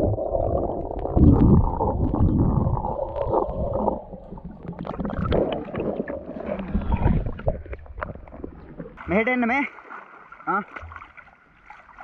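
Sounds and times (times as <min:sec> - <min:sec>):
underwater river churning: 0:00.0 - 0:12.0.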